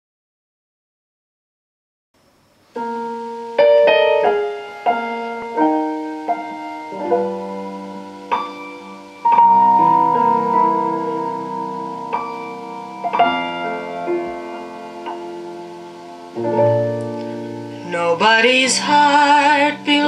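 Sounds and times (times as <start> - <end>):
solo piano through loudspeaker: 2.8 - 20.0.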